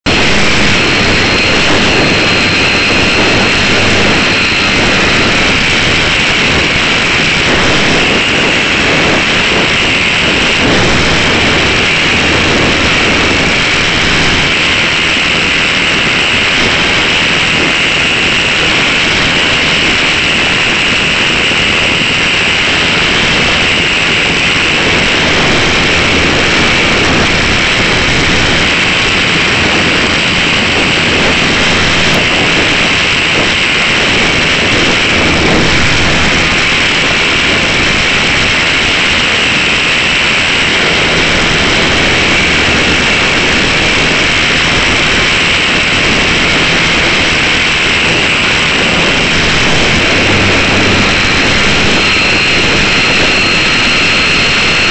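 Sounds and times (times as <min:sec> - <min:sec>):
electric motor drone: 0:00.0 - 0:54.9
propeller and wind rush: 0:00.0 - 0:54.9.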